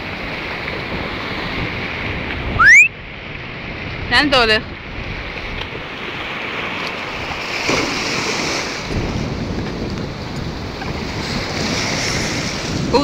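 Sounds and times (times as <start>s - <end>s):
waves washing on beach: 0.0s - 13.0s
wind rumble on microphone: 0.0s - 13.0s.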